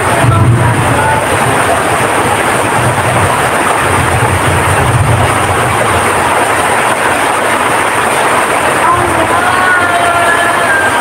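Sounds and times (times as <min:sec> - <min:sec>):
heavy rain pouring: 0:00.0 - 0:11.0
strong wind gusting: 0:00.0 - 0:11.0.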